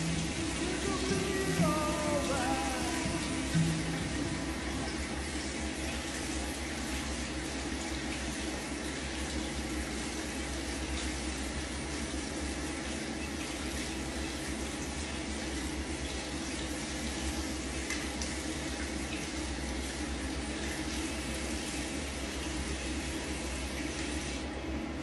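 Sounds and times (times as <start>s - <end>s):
hands washing under water: 0.0s - 24.5s
tap water running into sink: 0.0s - 24.6s.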